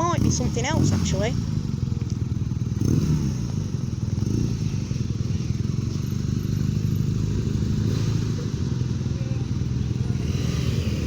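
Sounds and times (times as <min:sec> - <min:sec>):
motorcycle engines pulling away: 0:00.0 - 0:11.0.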